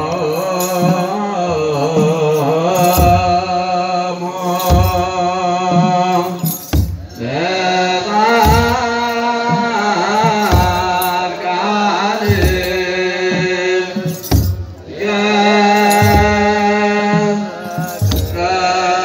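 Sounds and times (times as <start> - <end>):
deep drum beats: 0.0 - 3.9, 4.5 - 19.0
men chanting together: 0.0 - 19.0.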